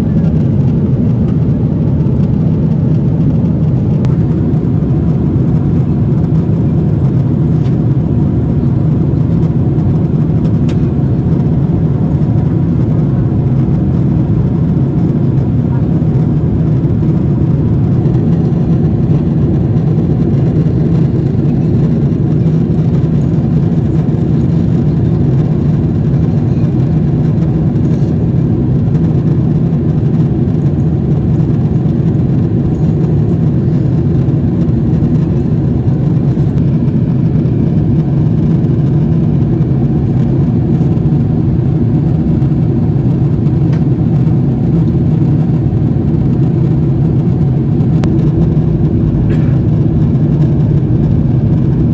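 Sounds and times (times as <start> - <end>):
airplane cabin roar: 0.0 - 51.9.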